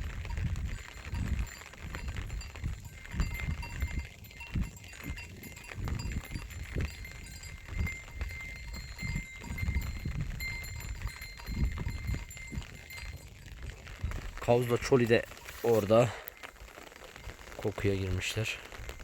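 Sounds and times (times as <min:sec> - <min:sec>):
low uneven rumbling: 0:00.0 - 0:19.0
small animal bell ringing: 0:00.3 - 0:16.6.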